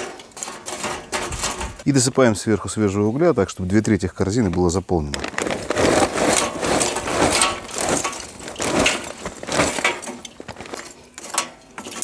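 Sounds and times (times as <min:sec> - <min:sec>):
charcoal lumps clattering: 0:00.0 - 0:02.7, 0:03.8 - 0:12.0.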